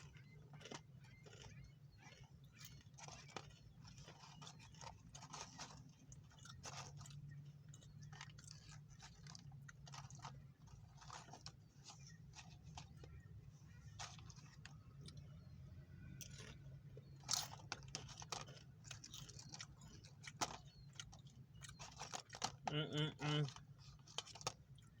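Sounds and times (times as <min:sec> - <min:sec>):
low steady hum: 0:00.0 - 0:25.0
person chewing crisp chips: 0:00.0 - 0:25.0.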